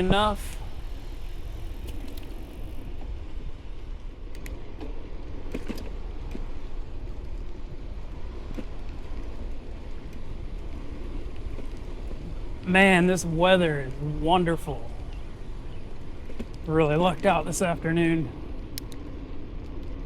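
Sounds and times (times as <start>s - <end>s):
bike clicks and rattles: 0.0s - 20.0s
tyres rolling on pavement: 0.0s - 20.0s
wind rushing over microphone: 0.0s - 20.0s.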